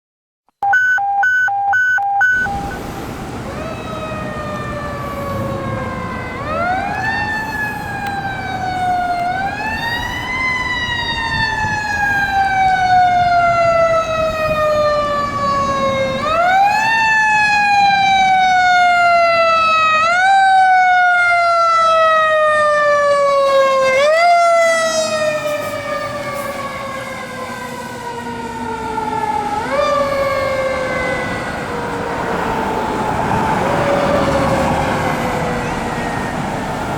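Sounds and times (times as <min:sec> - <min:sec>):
mechanical siren wailing: 0:00.6 - 0:36.9
truck rumble: 0:02.2 - 0:20.2, 0:24.0 - 0:36.9.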